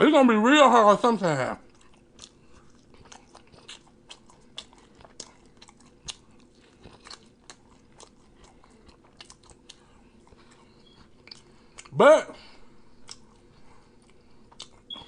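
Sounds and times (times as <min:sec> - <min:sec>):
person chewing with mouth clicks: 0:01.6 - 0:12.0, 0:12.9 - 0:15.0.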